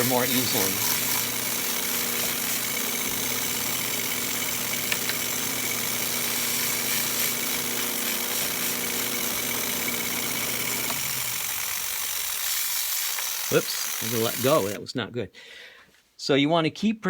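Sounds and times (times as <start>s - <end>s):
grinder motor and wheel: 0.0s - 14.8s.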